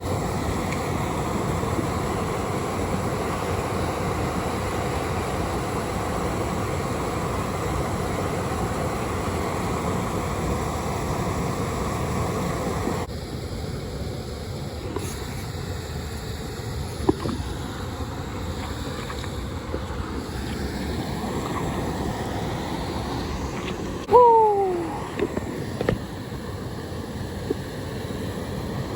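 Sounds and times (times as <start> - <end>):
river rushing over shoals: 0.0 - 28.9.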